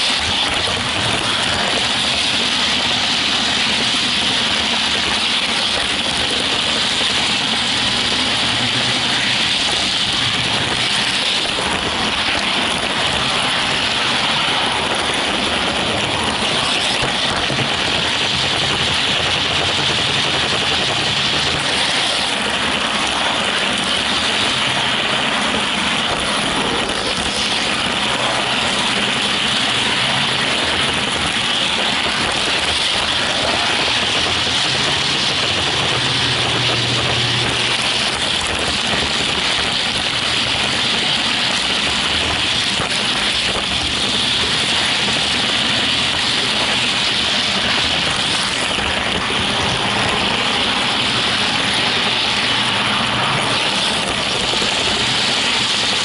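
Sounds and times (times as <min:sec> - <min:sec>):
model train running on track: 0:00.0 - 0:56.0.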